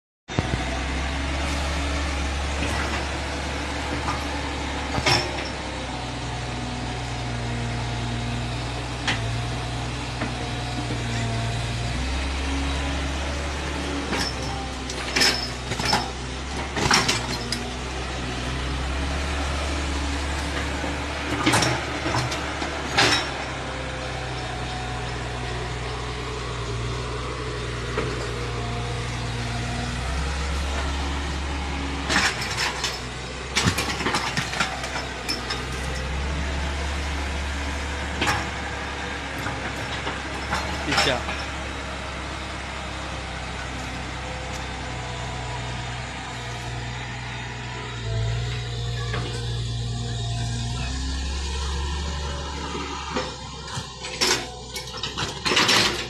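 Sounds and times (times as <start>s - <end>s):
excavator diesel engine running: 0.3s - 56.0s.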